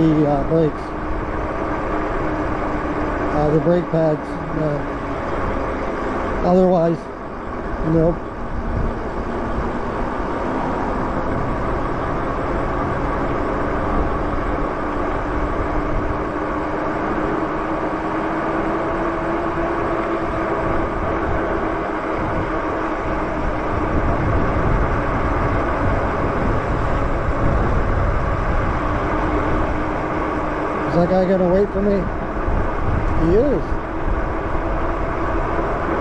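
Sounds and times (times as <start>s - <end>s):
electric motor whine: 0.0s - 36.0s
wind rushing over microphone: 0.0s - 36.0s.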